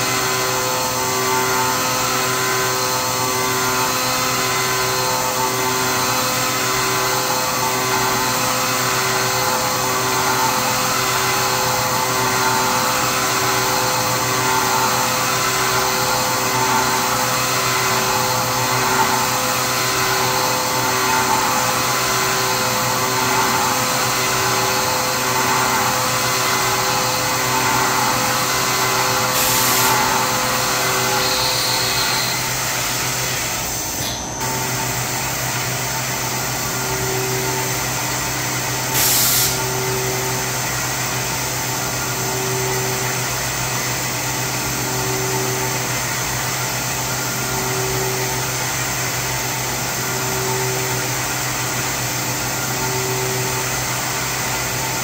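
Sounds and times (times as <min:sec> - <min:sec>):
milling machine cutting: 0:00.0 - 0:55.0.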